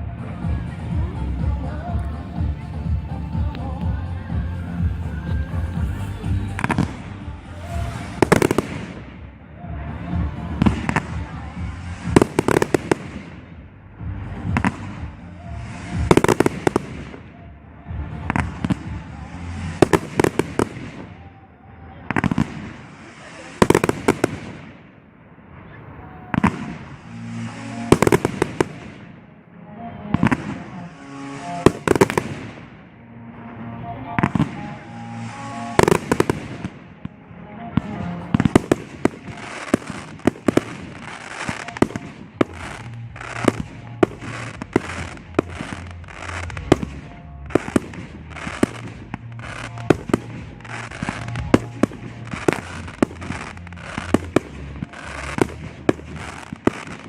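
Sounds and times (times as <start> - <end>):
music playing: 0.0 - 24.9, 25.9 - 57.0.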